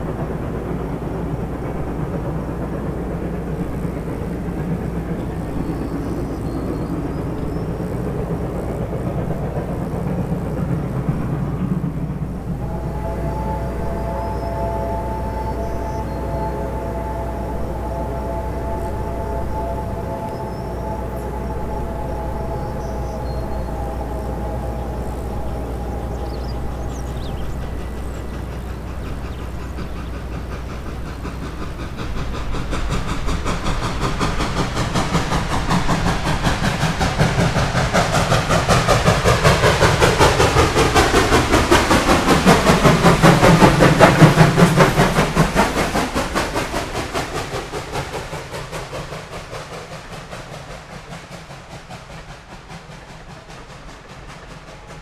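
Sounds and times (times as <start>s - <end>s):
steam locomotive chuffing: 0.0s - 55.0s.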